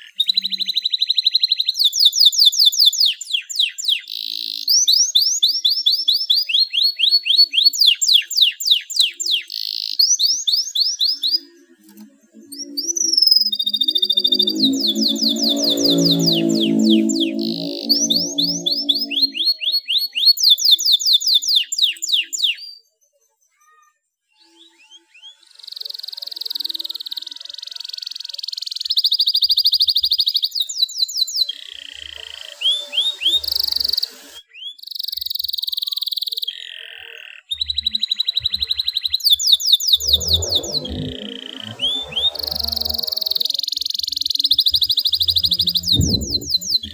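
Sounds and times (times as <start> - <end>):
canary singing: 0.0 - 22.8, 24.4 - 46.9.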